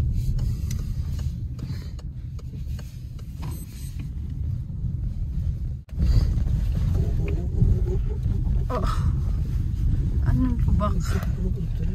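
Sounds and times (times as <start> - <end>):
car road and engine rumble: 0.0 - 11.9.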